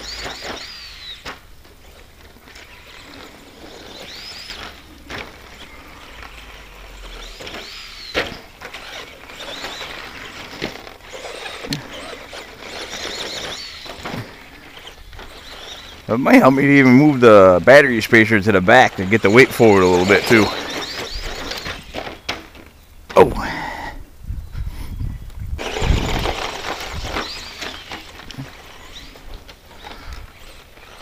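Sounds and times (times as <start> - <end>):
electric motor and gears whining: 0.0 - 23.8, 25.3 - 31.0.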